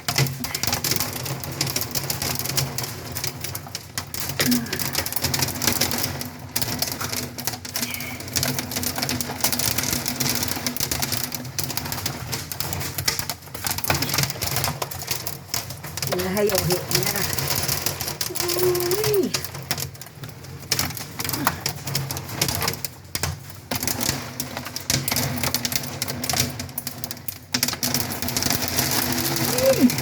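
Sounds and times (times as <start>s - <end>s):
hail and heavy rain rattling: 0.0s - 30.0s.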